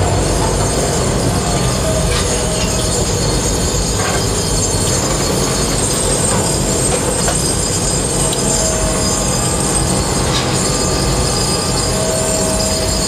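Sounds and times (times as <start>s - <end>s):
crane machinery rumbling: 0.0s - 13.0s
mid-pitched mechanical whine: 0.0s - 13.0s.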